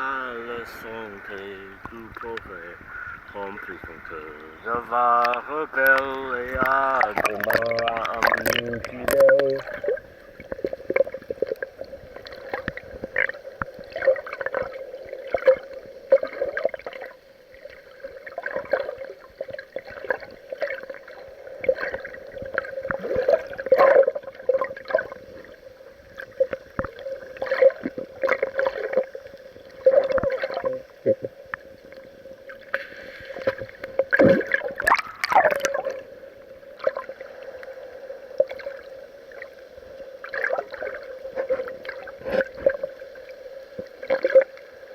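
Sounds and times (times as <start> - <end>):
muffled water sloshing and splashing: 0.0 - 44.9
steady hum: 0.0 - 44.9.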